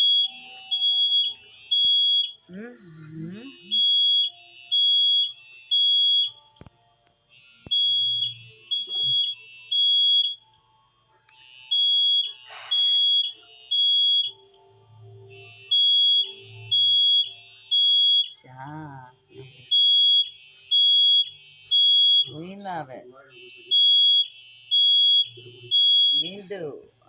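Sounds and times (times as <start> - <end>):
fire alarm beeping: 0.0 - 2.5, 3.6 - 6.7, 7.3 - 10.6, 11.4 - 18.5, 19.2 - 27.0.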